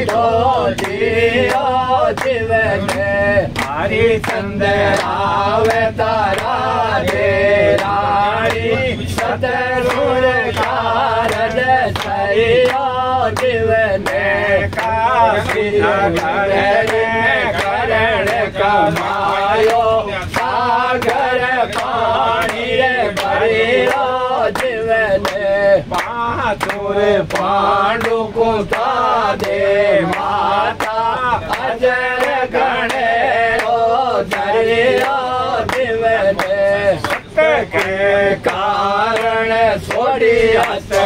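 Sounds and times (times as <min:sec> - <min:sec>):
handclaps: 0:00.0 - 0:41.0.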